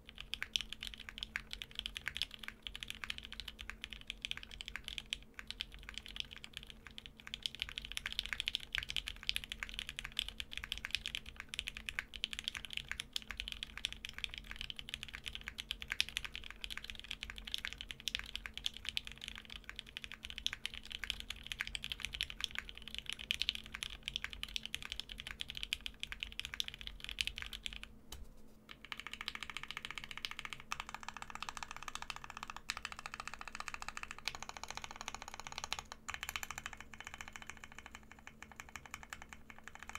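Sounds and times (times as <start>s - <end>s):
fast typing on mechanical keyboard: 0.0s - 27.9s, 28.7s - 39.9s.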